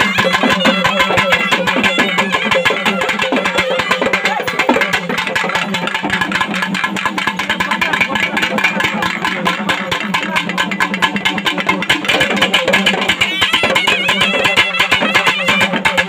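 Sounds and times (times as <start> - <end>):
fast drumming: 0.0 - 16.0
wavering melody: 0.0 - 16.0.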